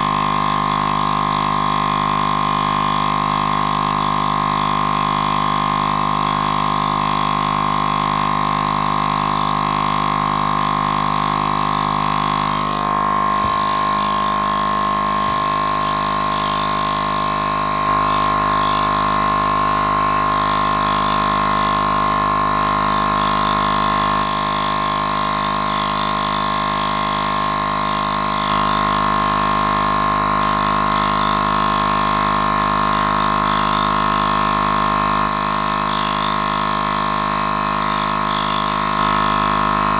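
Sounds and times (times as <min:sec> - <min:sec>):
air compressor droning hum: 0:00.0 - 0:39.9.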